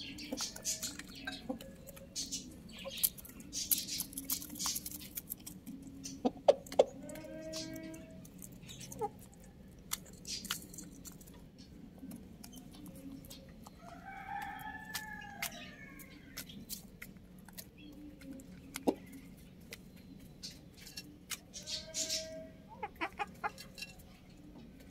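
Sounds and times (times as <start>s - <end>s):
chickens pecking clicks: 0.1s - 21.7s.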